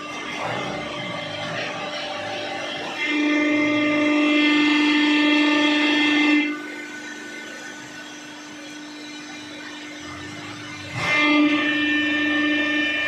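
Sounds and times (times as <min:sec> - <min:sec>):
hydraulic pump whining: 0:00.0 - 0:13.0.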